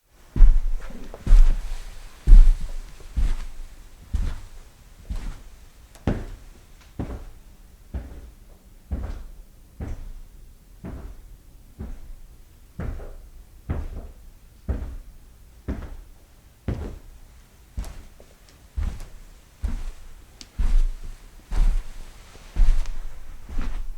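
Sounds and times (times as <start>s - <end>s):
footsteps of shoes walking: 0.4s - 12.2s, 12.8s - 23.9s.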